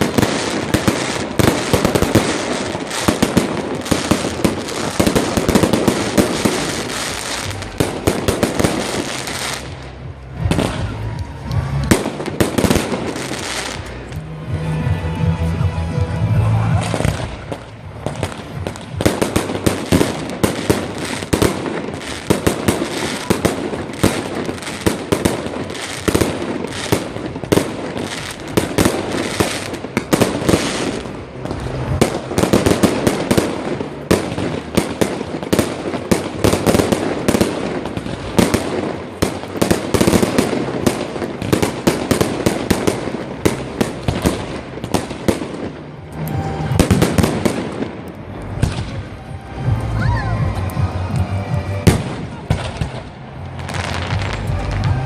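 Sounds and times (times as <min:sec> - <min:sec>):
fireworks barrage of bangs: 0:00.0 - 0:14.2, 0:16.6 - 0:49.8, 0:51.6 - 0:55.0.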